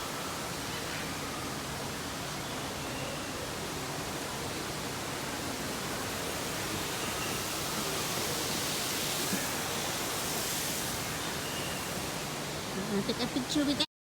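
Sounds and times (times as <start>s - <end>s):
steady rushing hiss: 0.0s - 13.9s.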